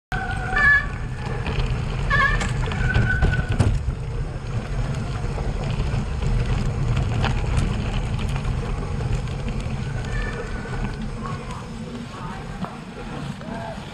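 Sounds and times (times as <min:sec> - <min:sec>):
bicycle rattles and knocks: 0:00.1 - 0:13.9
tyres on bumpy ground: 0:00.1 - 0:13.9.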